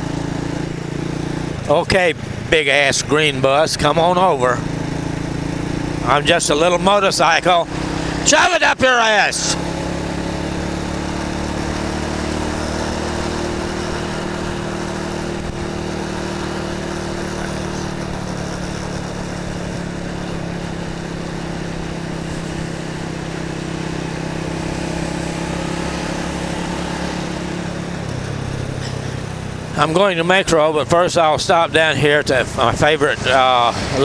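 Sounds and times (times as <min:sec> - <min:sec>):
road and wind noise: 0:00.0 - 0:34.0
small motorcycle engine running: 0:00.0 - 0:34.0.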